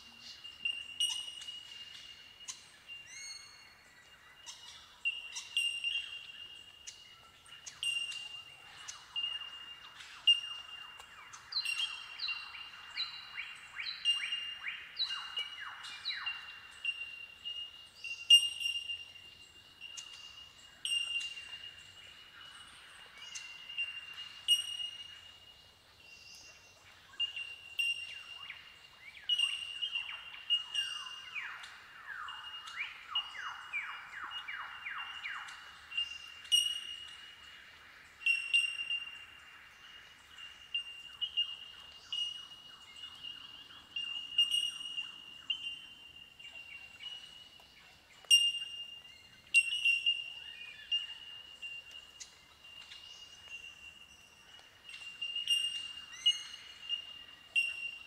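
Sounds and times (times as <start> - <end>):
bell-like bird calls: 0.0 - 25.5, 26.5 - 28.5, 29.2 - 37.5, 38.2 - 47.6, 48.2 - 58.0.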